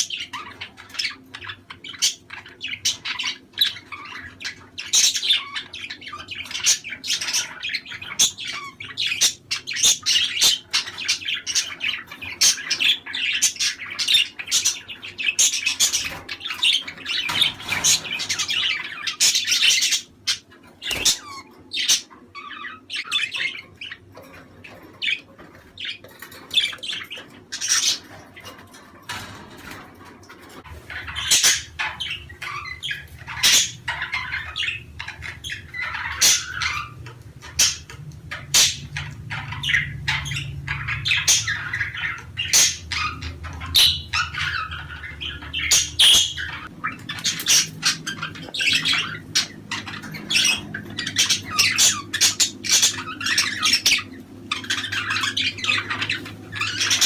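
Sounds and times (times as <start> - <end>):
budgerigars chirping and squawking: 0.0 - 57.0
low steady hum: 7.6 - 57.0.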